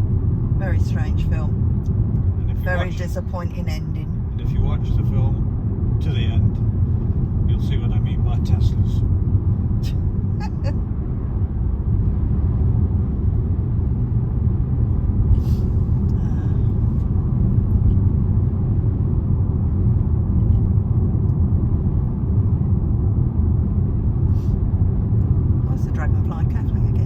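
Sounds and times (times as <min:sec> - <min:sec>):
car driving road rumble: 0:00.0 - 0:27.0.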